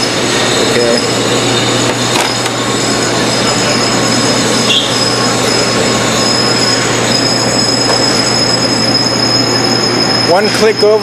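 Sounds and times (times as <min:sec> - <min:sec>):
low hum: 0:00.0 - 0:10.3
lathe gear whine: 0:00.0 - 0:11.0.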